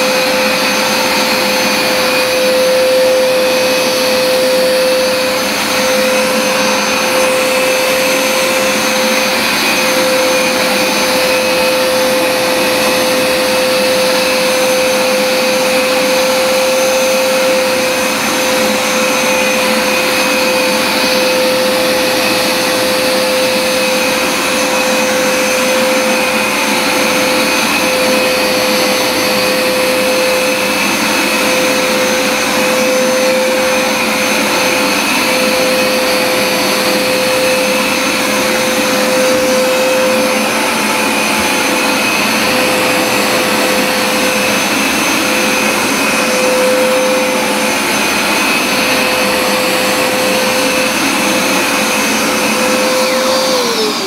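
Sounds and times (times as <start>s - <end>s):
carpet washer motor whining: 0.0s - 54.0s
suction rushing: 0.0s - 54.0s.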